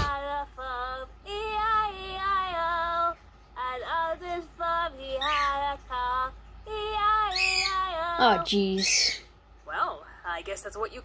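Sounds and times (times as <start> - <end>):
girl singing through laptop speaker: 0.0 - 8.9.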